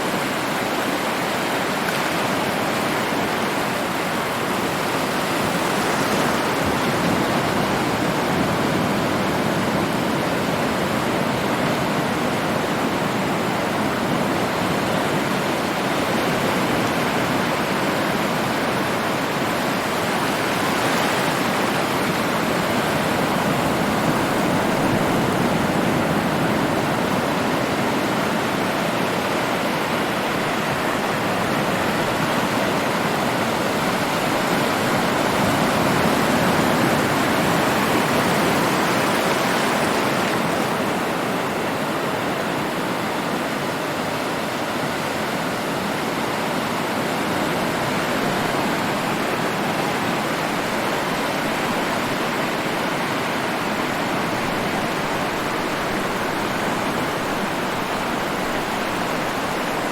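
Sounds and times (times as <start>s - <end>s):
heavy ocean surf breaking: 0.0s - 59.9s.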